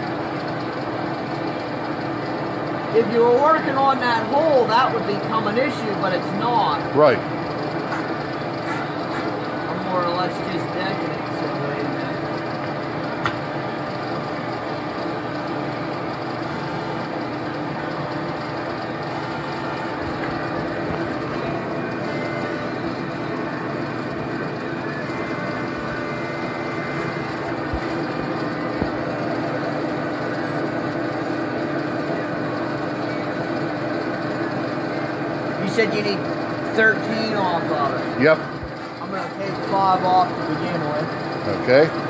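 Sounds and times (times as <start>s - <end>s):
metal lathe humming: 0.0s - 42.0s.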